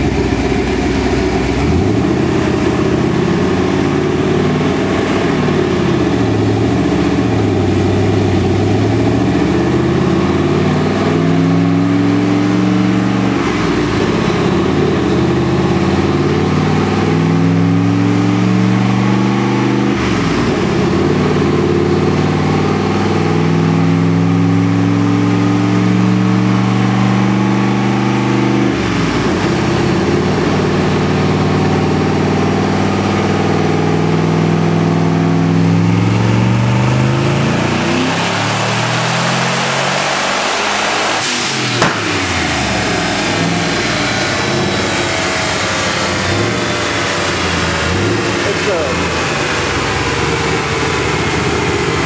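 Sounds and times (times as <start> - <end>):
car engine revving under load: 0.0 - 52.0.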